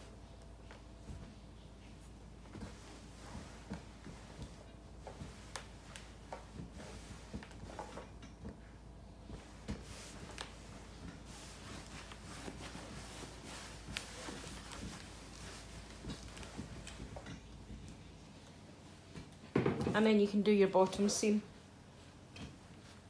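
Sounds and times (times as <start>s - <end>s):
iron knocking and rustling on fabric: 0.6s - 18.0s, 19.1s - 20.2s.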